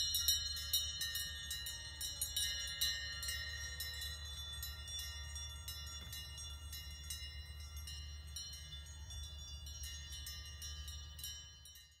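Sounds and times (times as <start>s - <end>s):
cowbells ringing: 0.0s - 12.0s.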